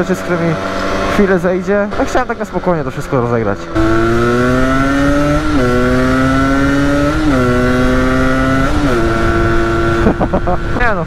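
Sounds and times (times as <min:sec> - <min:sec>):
motorcycle engine shifting gears: 0:00.0 - 0:11.0.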